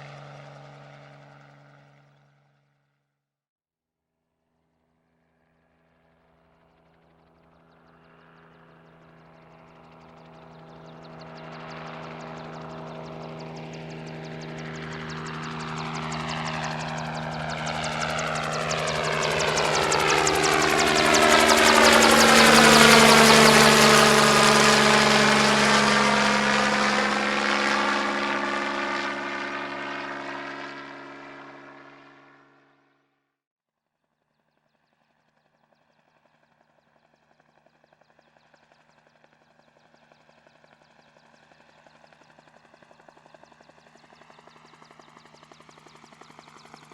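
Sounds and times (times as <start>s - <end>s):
helicopter flying past: 0.0s - 3.0s, 5.1s - 33.1s, 34.6s - 46.9s.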